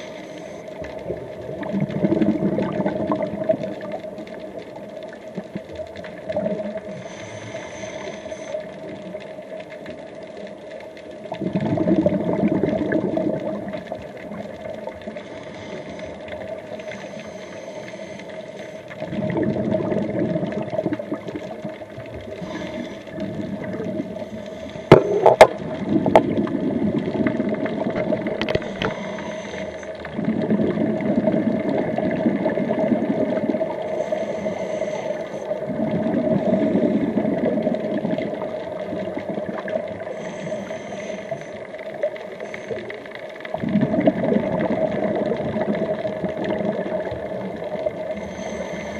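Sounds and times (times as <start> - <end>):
regulator exhaust bubbles underwater: 0.0 - 48.9.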